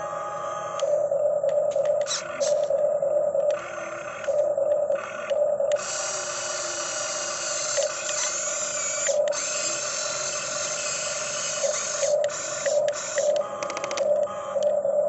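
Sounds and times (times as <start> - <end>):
hydraulic pump motor whining: 0.0 - 15.0.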